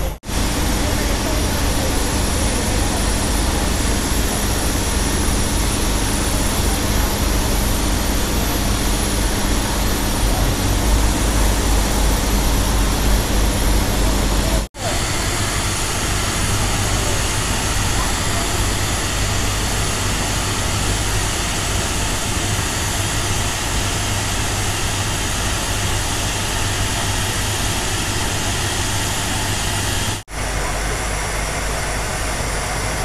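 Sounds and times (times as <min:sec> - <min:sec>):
steam locomotive venting steam: 0:00.0 - 0:33.0.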